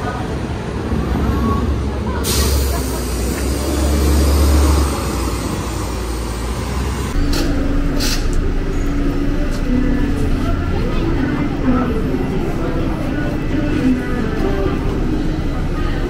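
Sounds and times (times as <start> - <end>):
bus engine rumbling: 0.0 - 16.0
street traffic: 0.0 - 16.0.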